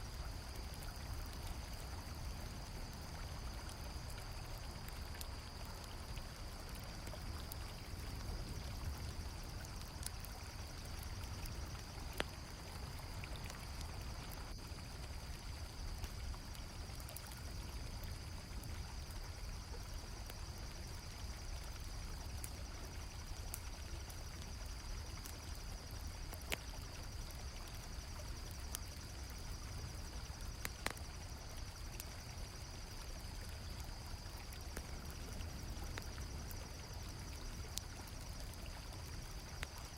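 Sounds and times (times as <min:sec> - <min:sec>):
crickets trilling: 0:00.0 - 0:39.9
campfire crackling pops: 0:00.1 - 0:39.9.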